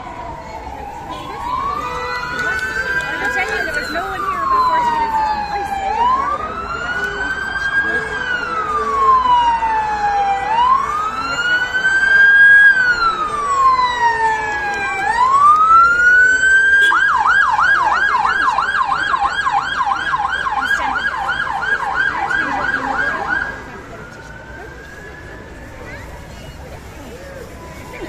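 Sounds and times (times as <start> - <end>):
emergency vehicle siren: 0.0 - 28.0.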